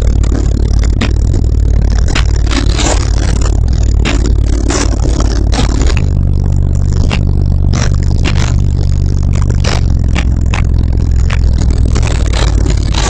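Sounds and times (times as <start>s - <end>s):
bass-heavy rap beat through subwoofers: 0.0s - 13.0s.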